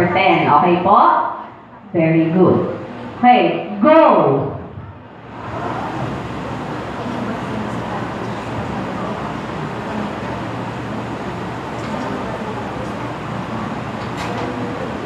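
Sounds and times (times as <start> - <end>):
busy classroom noise: 0.0 - 15.0.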